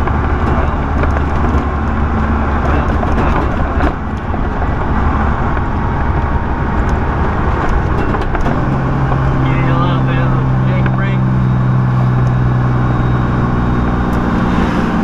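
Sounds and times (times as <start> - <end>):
road and wind noise: 0.0 - 15.0
truck engine drone: 0.0 - 15.0.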